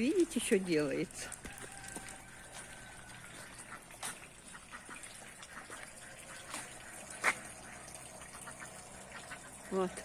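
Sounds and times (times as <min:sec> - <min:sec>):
water drops dripping: 0:00.0 - 0:10.0.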